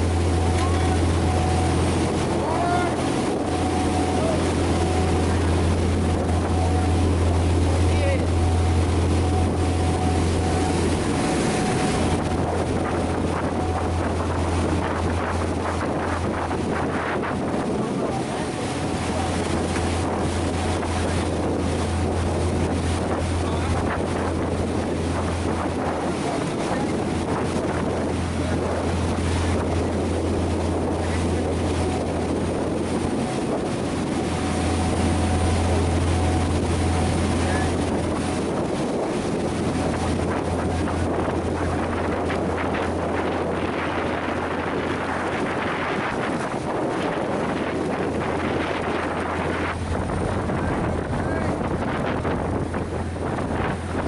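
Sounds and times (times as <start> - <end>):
boat engine droning: 0.0 - 54.0
water rushing along hull: 0.0 - 54.0
wind on microphone: 0.0 - 54.0.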